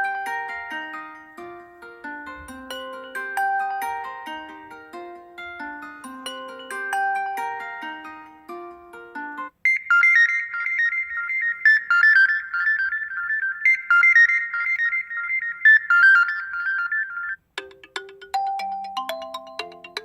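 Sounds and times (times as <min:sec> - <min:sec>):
fast high repeating ringtone: 0:00.0 - 0:01.4, 0:02.0 - 0:20.0
lower ringtone: 0:00.0 - 0:20.0
marimba-like ringtone: 0:00.0 - 0:20.0.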